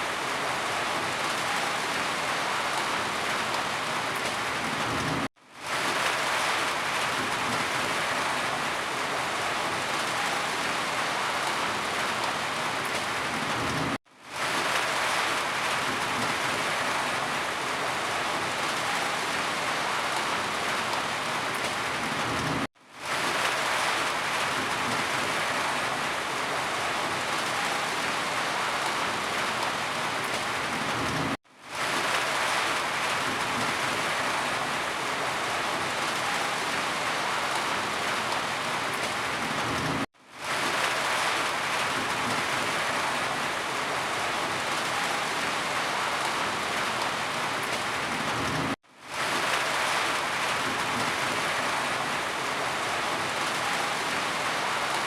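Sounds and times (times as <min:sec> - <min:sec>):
dense rainfall: 0:00.0 - 0:55.0.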